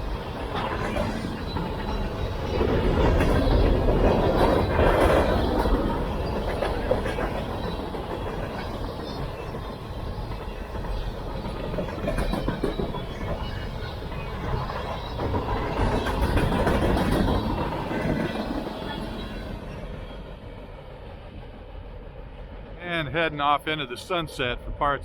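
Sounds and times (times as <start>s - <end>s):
train wheels clacking on rail joints: 0.0s - 20.8s.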